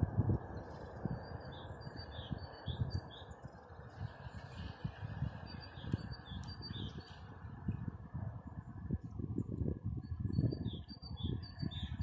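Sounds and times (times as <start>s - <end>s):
small songbirds chirping: 0.2s - 7.9s, 9.2s - 12.0s.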